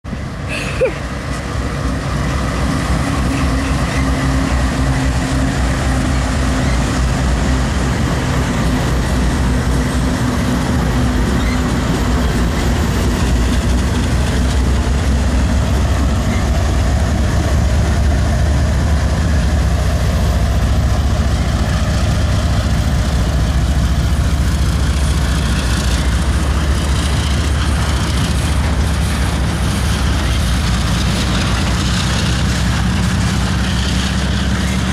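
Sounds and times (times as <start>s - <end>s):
diesel locomotive engine drone: 0.0s - 34.9s
wheels rumbling on rail: 0.0s - 34.9s.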